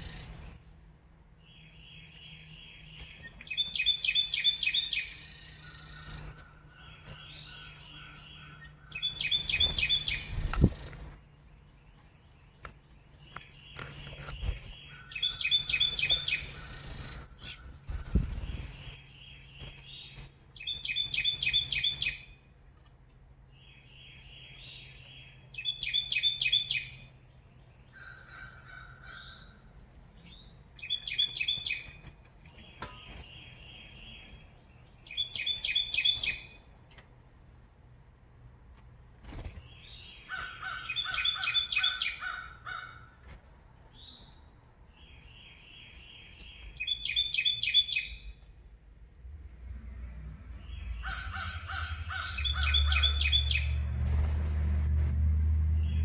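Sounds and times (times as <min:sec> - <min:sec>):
soft bird calls: 0:00.0 - 0:22.4, 0:23.5 - 0:36.7, 0:39.3 - 0:48.5, 0:50.4 - 0:54.2
songbird singing: 0:00.0 - 0:37.7, 0:39.5 - 0:54.1, 0:55.5 - 0:56.0.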